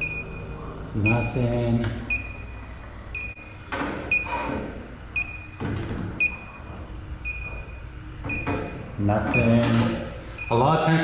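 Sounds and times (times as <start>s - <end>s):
leak detector beeping: 0.0s - 1.5s, 2.1s - 10.7s.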